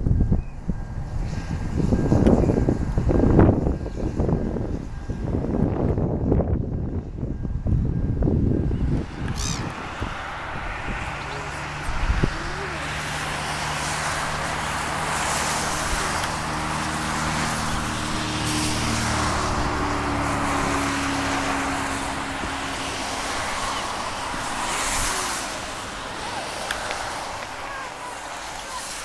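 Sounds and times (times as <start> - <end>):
rushing noise: 0.0 - 29.0
turboprop engines droning: 0.0 - 29.0.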